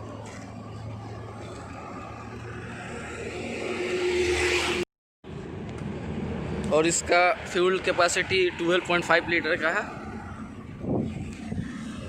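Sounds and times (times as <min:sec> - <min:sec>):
vehicle engine: 0:00.0 - 0:12.0.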